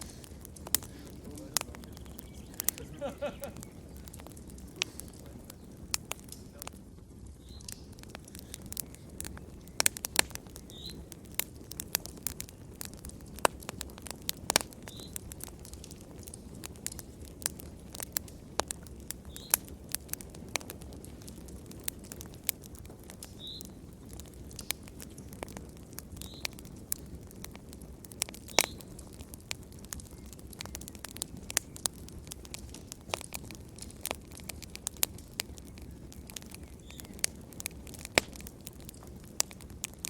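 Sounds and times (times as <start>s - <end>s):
low rush of burning: 0.0s - 40.0s
wood fire crackling: 0.0s - 40.0s.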